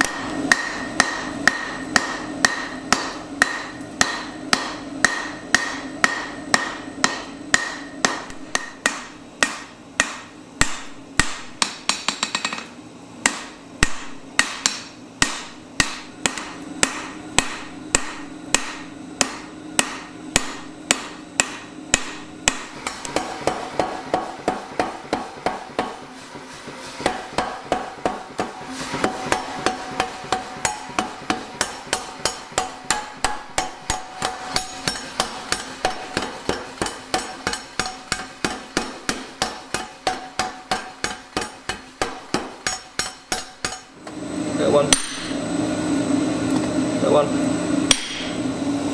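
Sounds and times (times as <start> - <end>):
power hammer pounding: 0.0 - 12.4, 13.2 - 26.1, 27.0 - 43.9
hammer striking iron on anvil: 0.0 - 26.0, 27.0 - 43.9, 44.9 - 45.4, 47.9 - 48.4.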